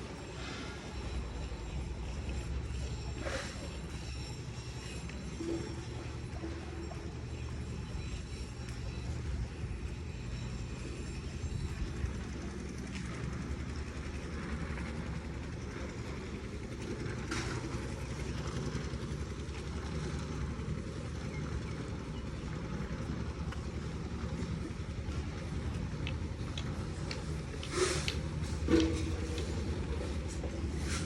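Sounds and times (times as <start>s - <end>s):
construction machinery engine: 0.0s - 31.0s.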